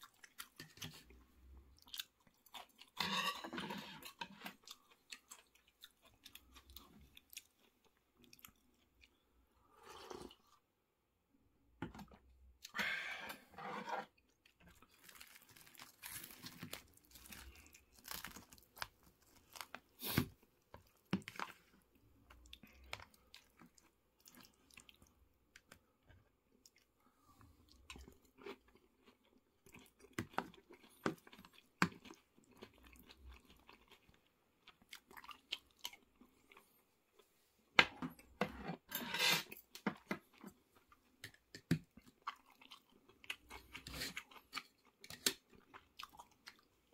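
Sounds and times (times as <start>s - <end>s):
chewing and crunching food: 0.0s - 10.7s, 14.0s - 37.4s, 38.1s - 46.9s.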